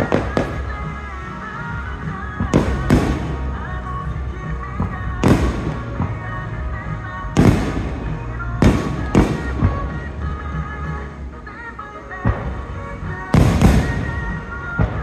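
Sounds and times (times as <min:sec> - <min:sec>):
fireworks booming: 0:00.0 - 0:15.0
music: 0:00.0 - 0:15.0.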